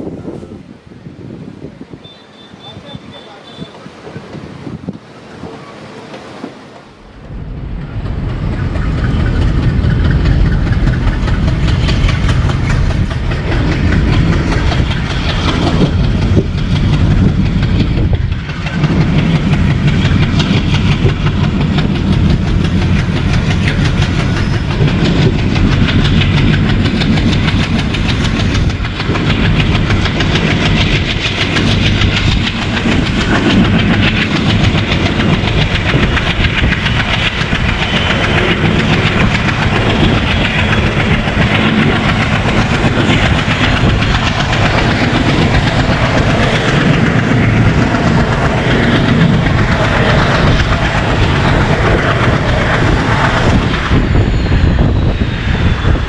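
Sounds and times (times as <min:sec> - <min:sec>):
diesel locomotive chugging: 0:00.0 - 0:56.0
train wheels clattering over rails: 0:02.2 - 0:56.0.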